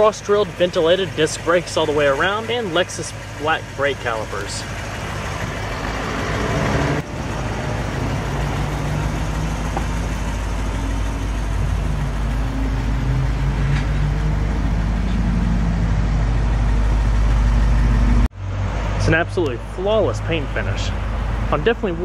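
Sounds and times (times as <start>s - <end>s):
car engine idling: 0.0s - 18.4s.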